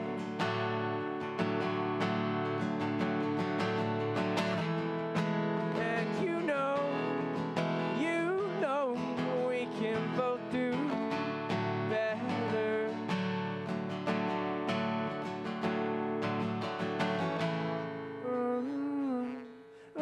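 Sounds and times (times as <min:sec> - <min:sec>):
strummed guitar: 0:00.0 - 0:20.0.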